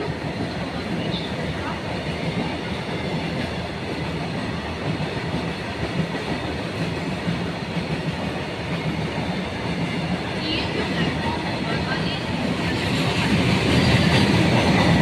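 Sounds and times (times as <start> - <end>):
freight train passing: 0.0 - 15.0
steel wheels on rails: 0.0 - 15.0.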